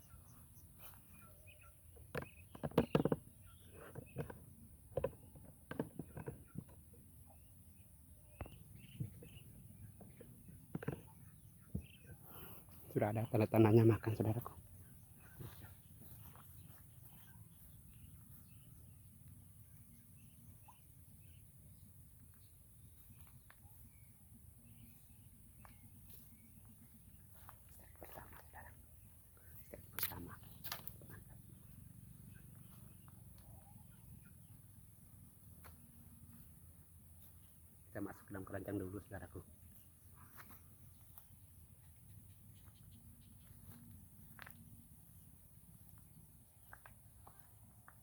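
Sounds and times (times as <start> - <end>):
faint bird chirps: 0.0 - 48.0.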